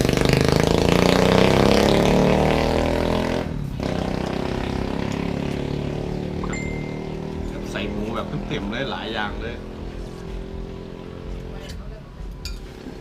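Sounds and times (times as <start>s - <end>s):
vehicle engine accelerating: 0.0s - 11.8s.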